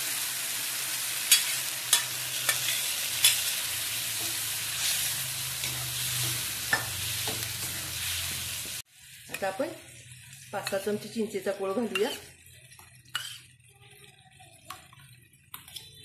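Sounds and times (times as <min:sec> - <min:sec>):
curry sizzling in a pan: 0:00.0 - 0:16.0.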